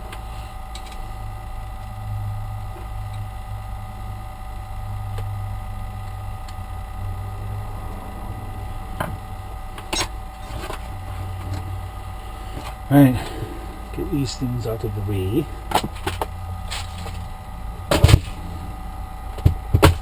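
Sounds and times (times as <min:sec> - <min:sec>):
computer fan humming and whining: 0:00.0 - 0:20.0.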